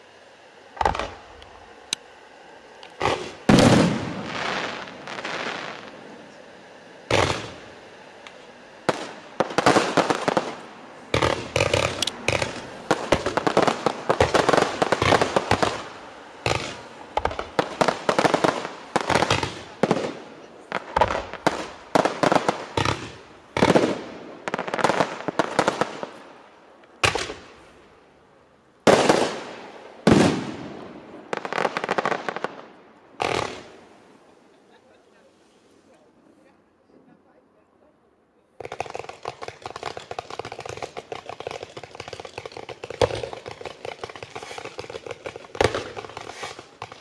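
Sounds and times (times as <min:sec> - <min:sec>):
fireworks bangs and crackling: 0:00.0 - 0:28.1, 0:28.8 - 0:34.8, 0:38.6 - 0:47.0.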